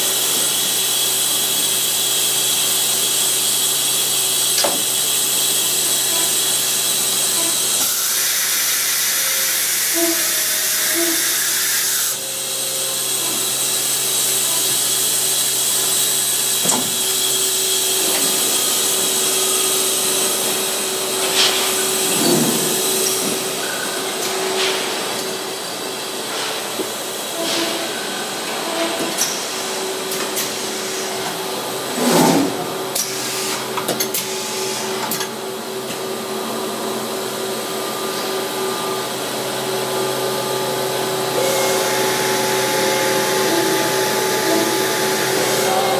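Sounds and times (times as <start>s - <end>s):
machine humming and hissing: 0.0s - 45.9s.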